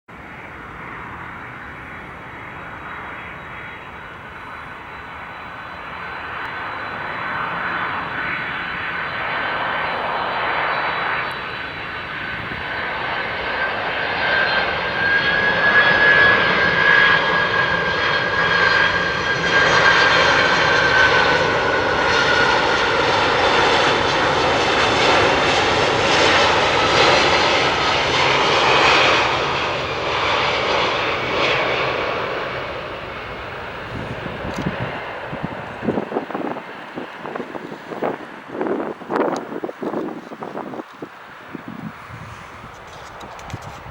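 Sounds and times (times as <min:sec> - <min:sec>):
high engine whine: 0:00.1 - 0:43.9
jet airliner engines: 0:00.1 - 0:43.9.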